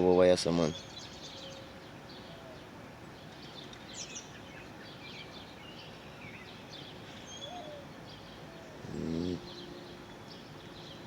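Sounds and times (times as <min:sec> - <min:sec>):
outdoor hiss: 0:00.0 - 0:11.0
small birds chirping: 0:00.0 - 0:11.0.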